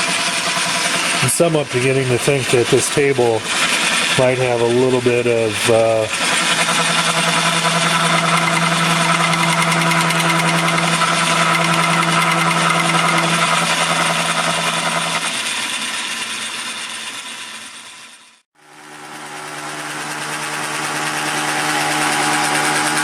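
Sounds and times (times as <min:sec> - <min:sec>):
machine winding down: 0:00.0 - 0:23.0
milling machine hum and clatter: 0:00.0 - 0:23.0.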